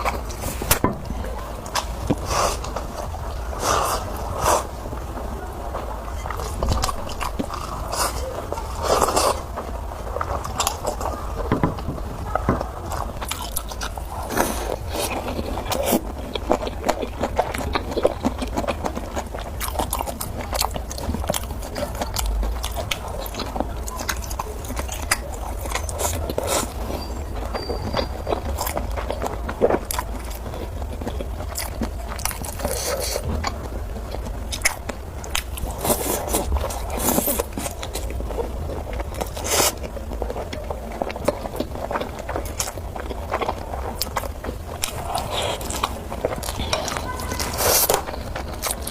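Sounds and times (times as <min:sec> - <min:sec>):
chewing and biting noodles: 0:05.8 - 0:11.5, 0:12.4 - 0:48.9.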